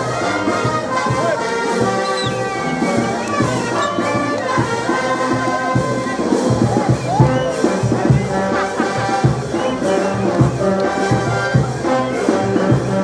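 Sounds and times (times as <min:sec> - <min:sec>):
brass band playing: 0:00.0 - 0:13.0
drum beat: 0:00.0 - 0:13.0.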